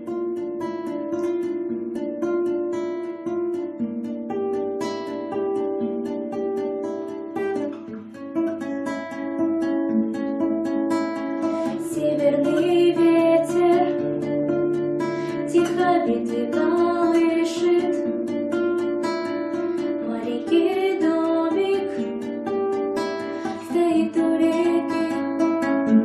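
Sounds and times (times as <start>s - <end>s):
plucked string instrument melody: 0.0s - 26.0s.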